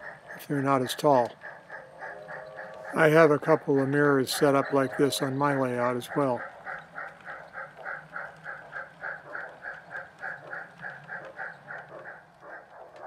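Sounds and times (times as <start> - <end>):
model steam locomotive chuffs: 0.0 - 13.0.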